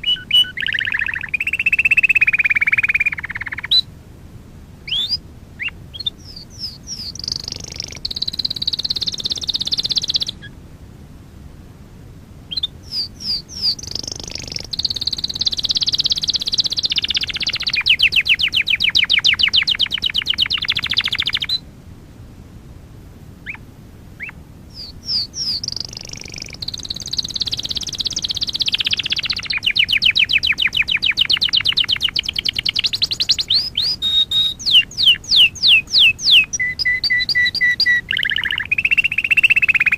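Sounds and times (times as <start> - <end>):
canary chirping and trilling: 0.0 - 3.8, 4.9 - 10.4, 12.5 - 21.6, 24.2 - 39.9.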